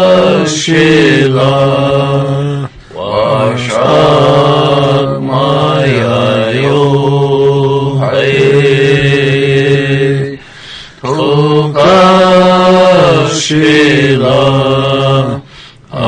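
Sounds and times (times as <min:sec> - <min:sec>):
low voice chanting: 0:00.0 - 0:10.4, 0:11.0 - 0:16.0.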